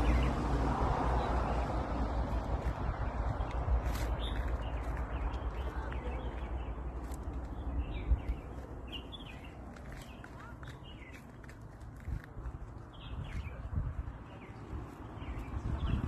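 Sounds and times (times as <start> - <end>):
small birds chirping: 2.7 - 16.0.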